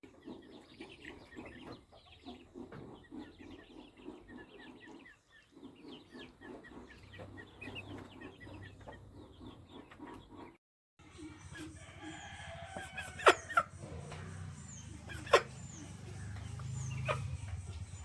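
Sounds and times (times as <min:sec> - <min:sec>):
low clucking: 0:00.0 - 0:10.6, 0:11.2 - 0:18.0
chicks peeping: 0:00.0 - 0:18.0.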